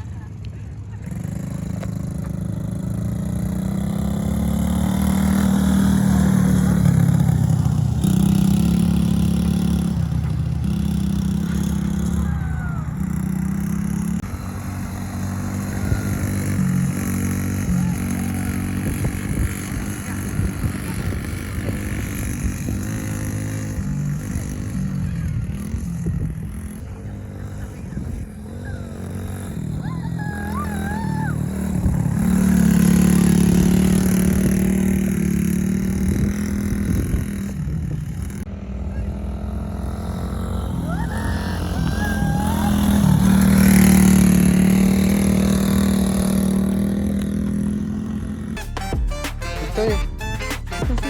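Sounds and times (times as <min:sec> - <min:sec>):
small engine revving: 0:00.8 - 0:51.0.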